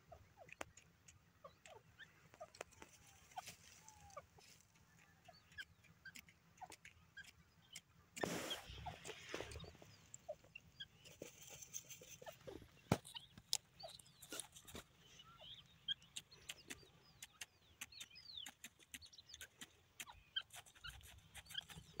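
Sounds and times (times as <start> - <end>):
small birds chirping and whistling: 0.1 - 22.0.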